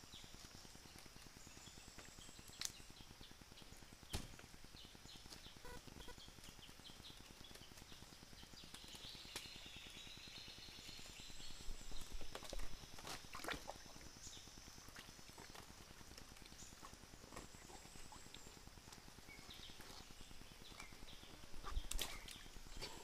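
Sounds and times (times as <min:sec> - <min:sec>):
running stream water: 0:00.0 - 0:23.0.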